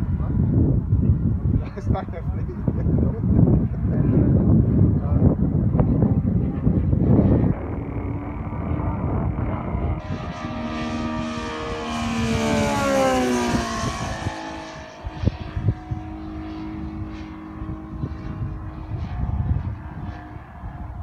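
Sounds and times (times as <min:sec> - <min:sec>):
model plane engines flying past: 0:00.0 - 0:21.0
wind thumps on microphone: 0:00.0 - 0:21.0.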